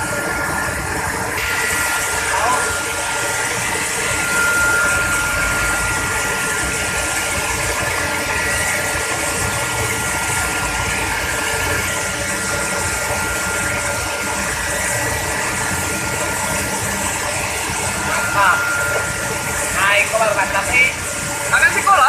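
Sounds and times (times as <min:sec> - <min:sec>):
machine running with high whine: 0:00.0 - 0:22.0.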